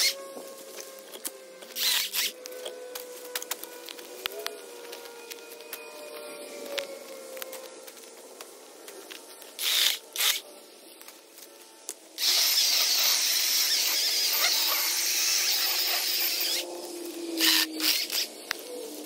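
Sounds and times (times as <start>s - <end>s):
electric chainsaw cutting log: 0.0s - 8.2s, 9.1s - 10.6s, 11.4s - 18.7s.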